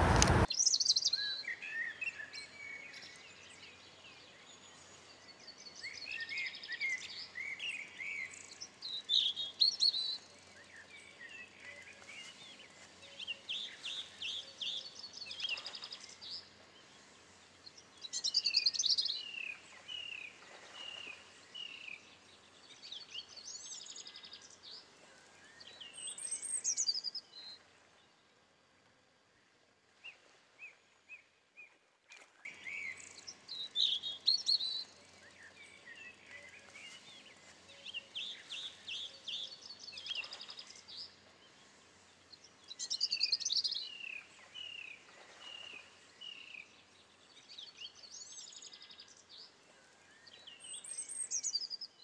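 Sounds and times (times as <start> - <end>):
songbirds singing: 0.0 - 28.2, 32.4 - 52.0
faint outdoor background: 0.0 - 52.0.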